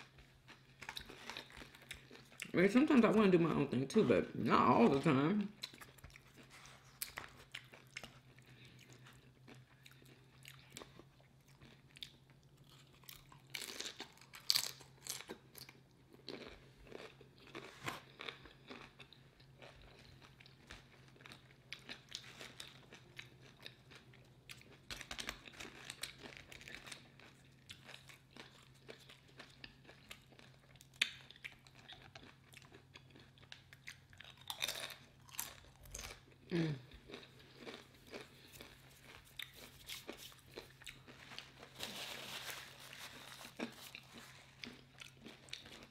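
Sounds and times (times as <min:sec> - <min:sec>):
person crunching chips: 0:00.0 - 0:02.5, 0:05.6 - 0:45.9.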